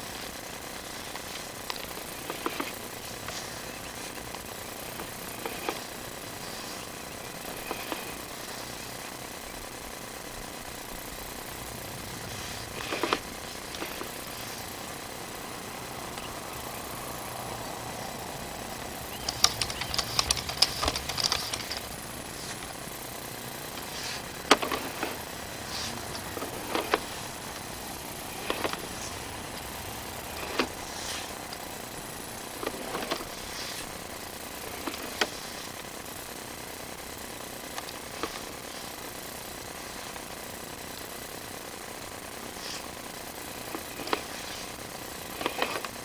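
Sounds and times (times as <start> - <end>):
rapid rattling clicks: 0.0 - 46.0
steady low hum: 0.0 - 46.0.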